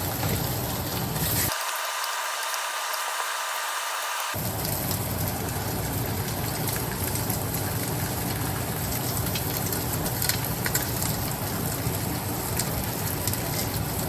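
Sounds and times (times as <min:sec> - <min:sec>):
meat sizzling in oil: 0:00.0 - 0:14.0
stove fan humming: 0:00.0 - 0:14.0.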